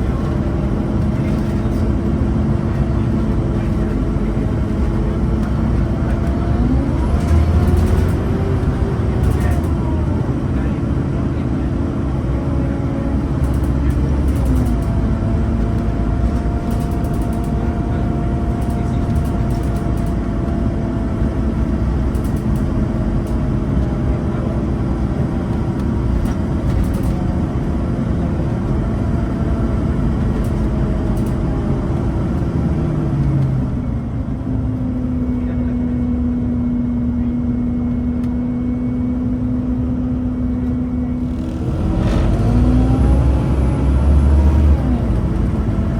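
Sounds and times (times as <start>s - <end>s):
bus diesel engine running: 0.0s - 45.9s.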